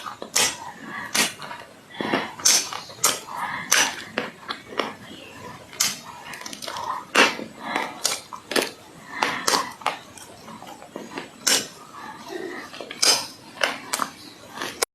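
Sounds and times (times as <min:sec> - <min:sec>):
clay crumbling: 0:00.0 - 0:14.9.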